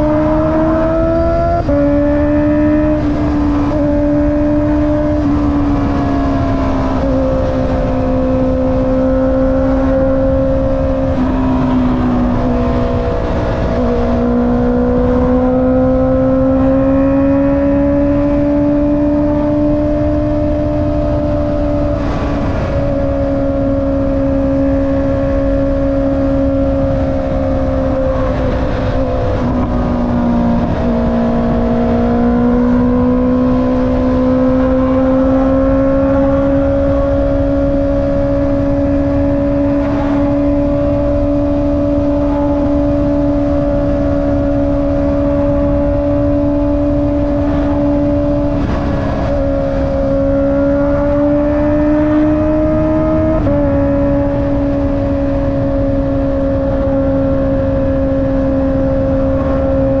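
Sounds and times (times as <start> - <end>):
motorcycle engine cruising: 0.0 - 60.0
wind rush: 0.0 - 60.0.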